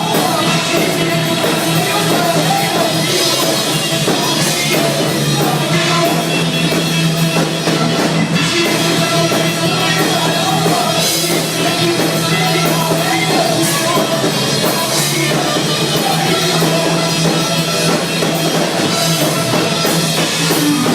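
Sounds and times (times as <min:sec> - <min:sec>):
drum kit and cymbals: 0:00.0 - 0:20.9
live rock band playing: 0:00.0 - 0:20.9
person singing: 0:00.0 - 0:20.9.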